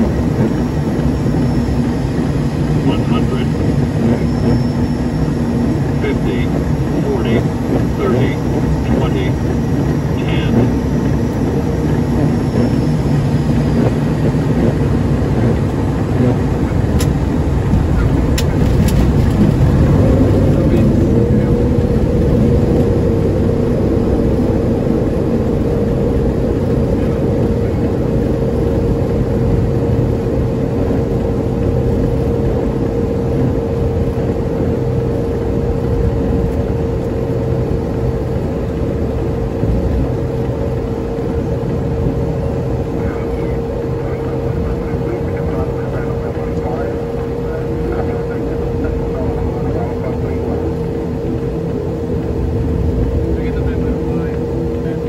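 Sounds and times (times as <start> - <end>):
steady whine: 0.0 - 55.0
turboprop engines rumbling: 0.0 - 55.0.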